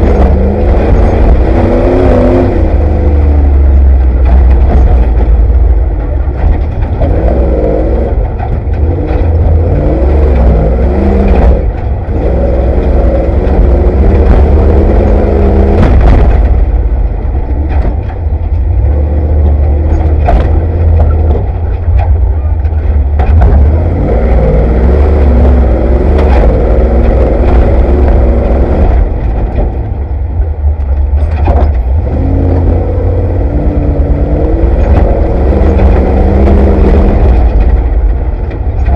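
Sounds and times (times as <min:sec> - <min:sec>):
heavy low rumble: 0:00.0 - 0:38.9
vehicle engine revving: 0:00.0 - 0:38.9.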